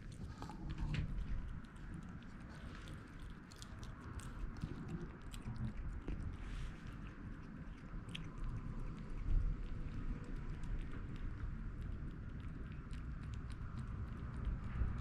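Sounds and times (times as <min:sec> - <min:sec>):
kitten chewing food: 0:00.0 - 0:15.0.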